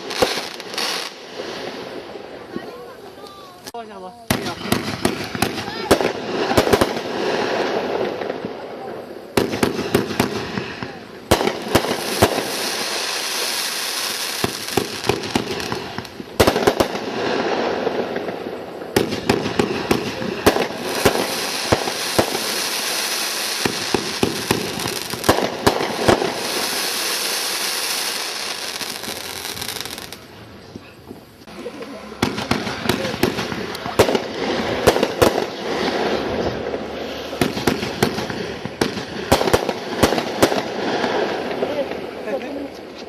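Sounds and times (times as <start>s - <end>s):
firework crackling and popping: 0.0s - 43.0s.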